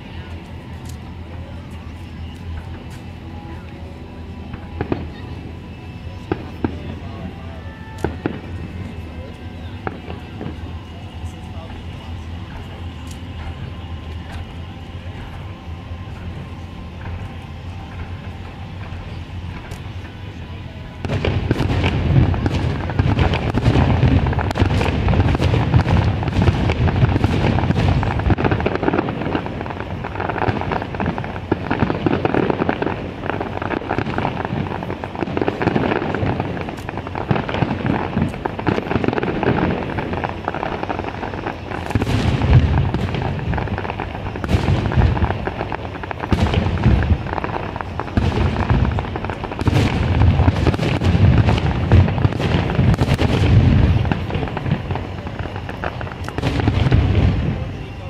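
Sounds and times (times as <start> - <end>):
fireworks booming and cracking: 0.0 - 58.0.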